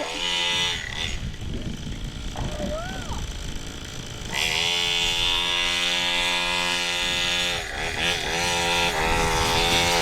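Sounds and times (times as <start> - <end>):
dirt bike engine at high revs: 0.0 - 10.0.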